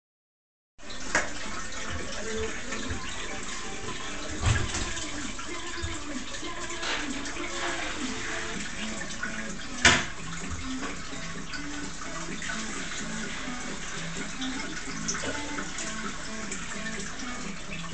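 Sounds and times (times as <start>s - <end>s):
water running into a trough: 0.8s - 17.9s.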